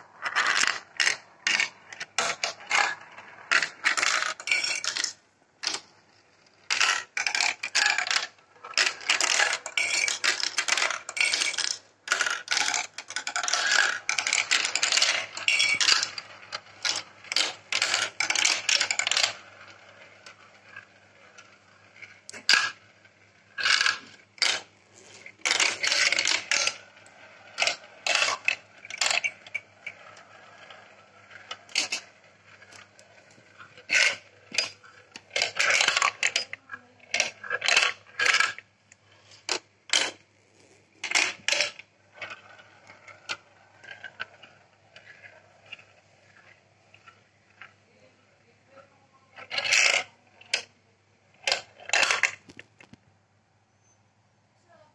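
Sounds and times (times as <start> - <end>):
marbles rattling on plastic track: 0.0 - 5.9, 6.6 - 48.1, 48.7 - 50.8, 51.4 - 53.0.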